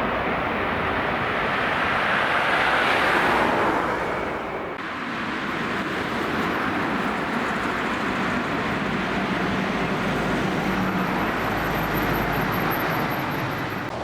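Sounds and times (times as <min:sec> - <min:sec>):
jet airliner engine roar: 0:00.0 - 0:14.0.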